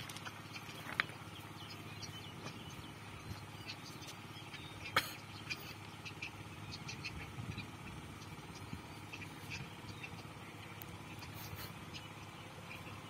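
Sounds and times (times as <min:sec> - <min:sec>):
faint low hum: 0:00.0 - 0:13.0
bird chirps: 0:00.3 - 0:13.0.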